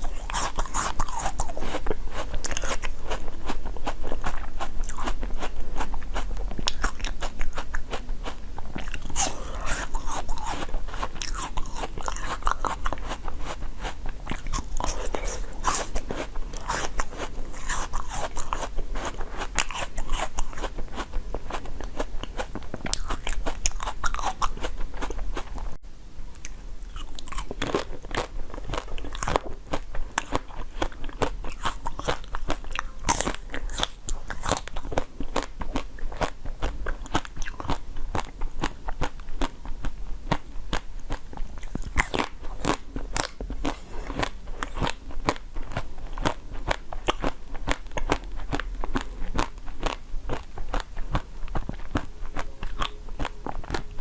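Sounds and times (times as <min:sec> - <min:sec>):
crunching bites and chewing: 0:00.0 - 0:25.7, 0:26.4 - 0:54.0.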